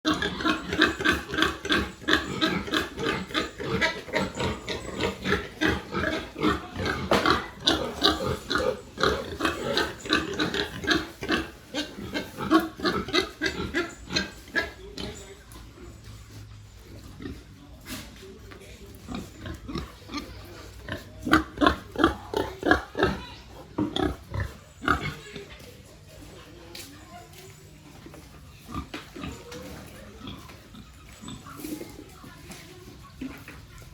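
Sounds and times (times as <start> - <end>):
pigs grunting: 0.1 - 17.6, 19.0 - 25.5, 28.2 - 32.2.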